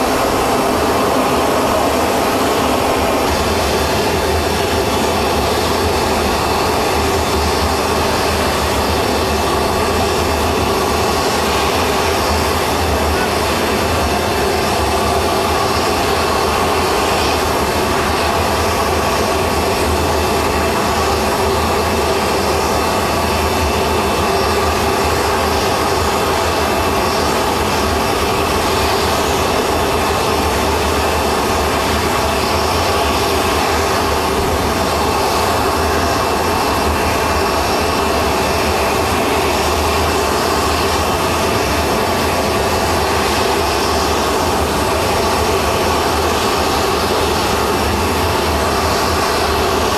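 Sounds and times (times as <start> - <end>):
jet turbine running: 0.0 - 49.9.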